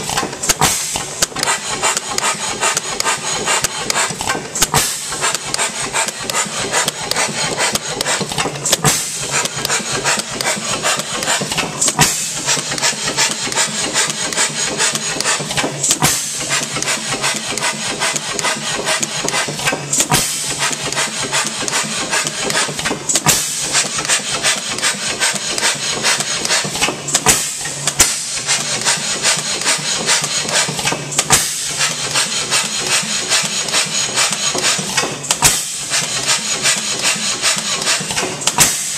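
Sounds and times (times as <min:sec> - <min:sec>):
gas engine clattering: 0:00.0 - 0:38.9.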